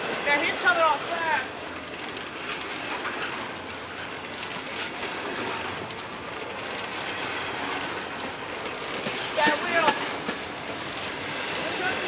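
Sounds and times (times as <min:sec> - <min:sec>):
freight cars rumbling and rattling: 0:00.0 - 0:12.0.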